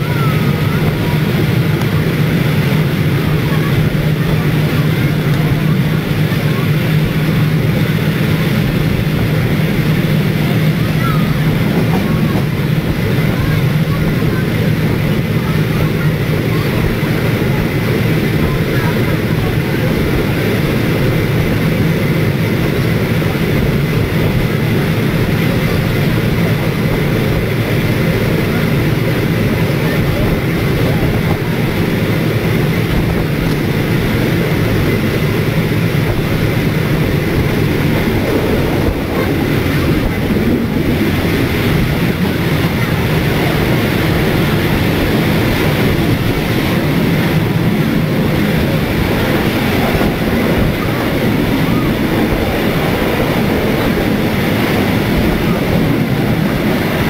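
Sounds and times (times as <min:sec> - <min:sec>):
rushing air: 0:00.0 - 0:57.0
train wheels rumbling on rail: 0:00.0 - 0:57.0.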